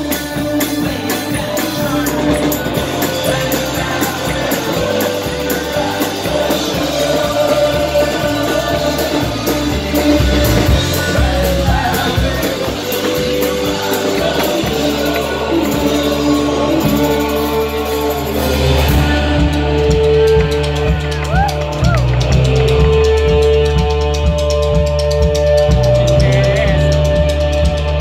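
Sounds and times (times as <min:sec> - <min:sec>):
live band playing: 0:00.0 - 0:28.0
person singing: 0:00.0 - 0:28.0.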